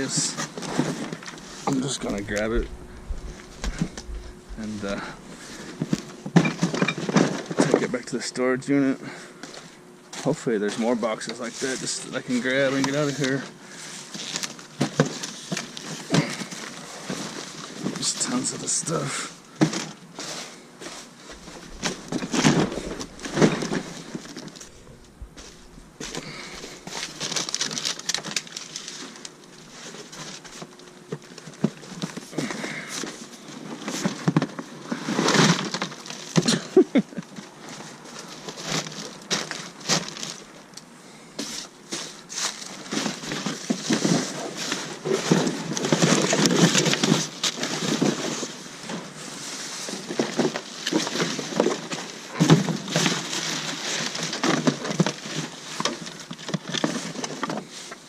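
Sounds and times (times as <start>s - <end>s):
cardboard boxes rustling and scraping: 0.0s - 7.9s, 9.5s - 40.6s, 41.4s - 58.0s.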